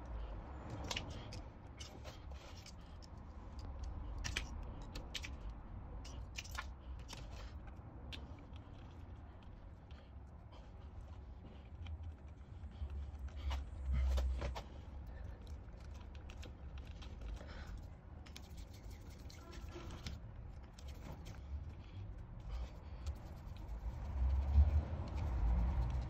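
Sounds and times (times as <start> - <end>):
clicks and rustles of wires: 0.0 - 26.0.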